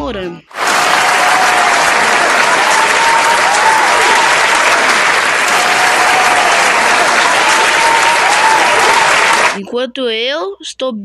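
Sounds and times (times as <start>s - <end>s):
large crowd applauding: 0.5s - 9.6s.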